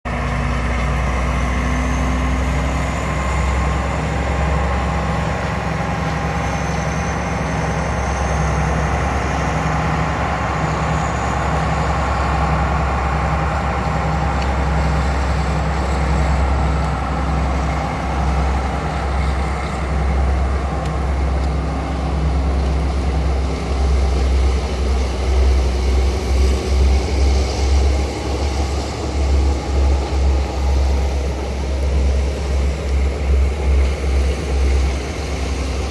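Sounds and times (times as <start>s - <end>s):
vehicle engine rumble: 0.0s - 35.9s.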